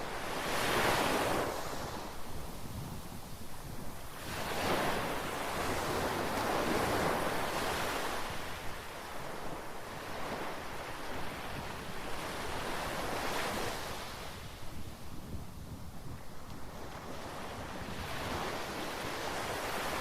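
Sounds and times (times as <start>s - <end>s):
sea waves breaking on shore: 0.0s - 15.0s, 15.6s - 20.0s
wind on microphone: 0.0s - 20.0s.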